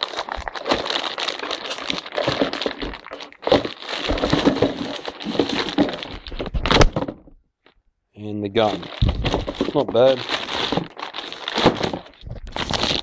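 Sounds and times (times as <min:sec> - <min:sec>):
plastic packaging crinkling: 0:00.0 - 0:07.2, 0:08.6 - 0:13.0.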